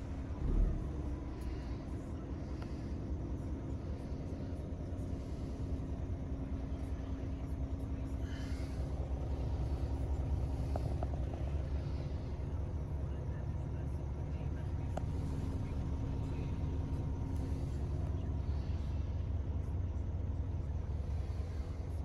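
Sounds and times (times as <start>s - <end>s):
diesel engine idling: 0.0s - 22.0s
faint constant hum: 0.0s - 22.0s.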